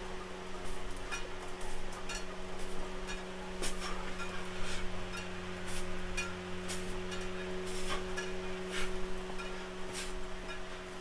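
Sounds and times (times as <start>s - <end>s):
low hum: 0.0s - 11.0s
metal chain clinking: 0.4s - 11.0s.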